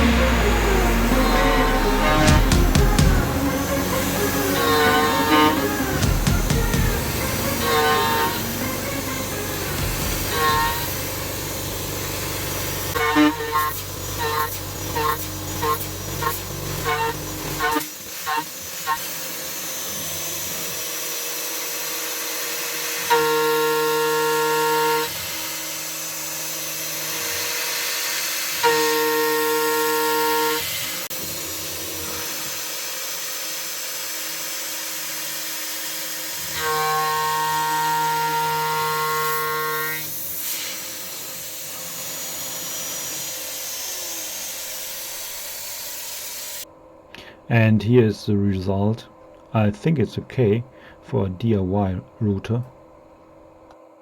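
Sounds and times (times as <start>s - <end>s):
loud pitched cutter squeal: 0.0s - 46.6s
router cutting steel hissing: 0.0s - 46.7s.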